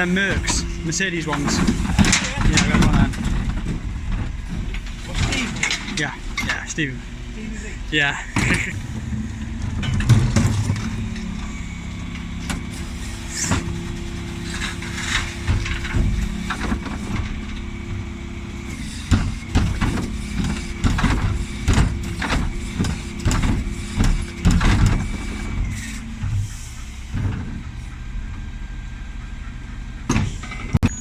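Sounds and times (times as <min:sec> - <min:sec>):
bin lorry engine running: 0:00.0 - 0:31.0
steady high whine: 0:00.0 - 0:31.0
sharp knocks and clatters: 0:00.2 - 0:06.8, 0:08.4 - 0:28.0.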